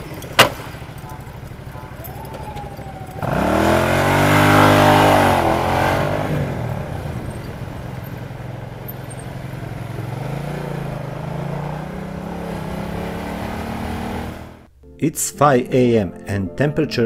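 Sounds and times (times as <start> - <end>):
motorcycle engine revving: 0.0 - 14.7.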